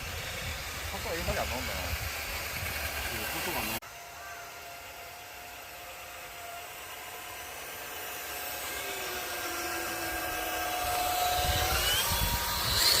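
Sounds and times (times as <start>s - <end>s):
electric rc car motor whining: 0.0s - 13.0s.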